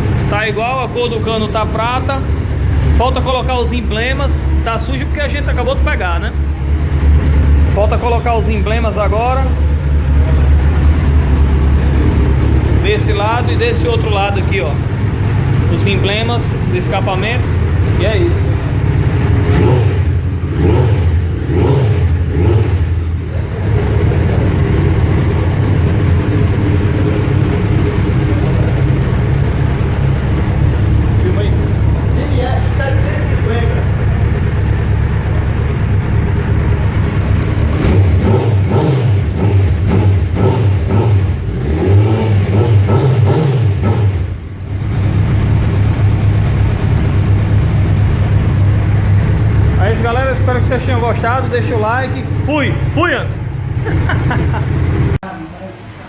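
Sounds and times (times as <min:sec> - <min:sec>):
motorcycle engine revving and idling: 0:00.0 - 0:55.2.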